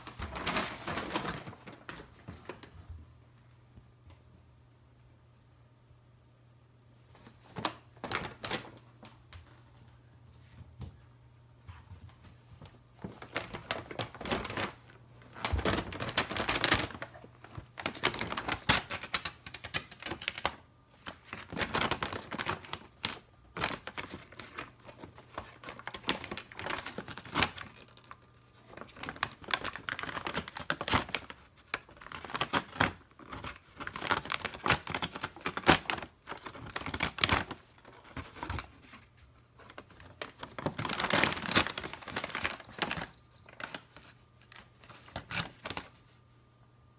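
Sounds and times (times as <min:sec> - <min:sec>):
paper bag crinkling: 0:00.0 - 0:02.7, 0:07.1 - 0:09.1, 0:13.0 - 0:46.2.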